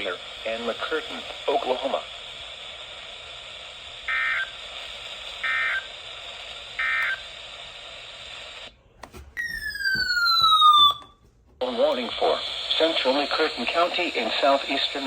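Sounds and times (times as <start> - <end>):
radio broadcast hiss: 0.0 - 8.8, 11.6 - 15.0.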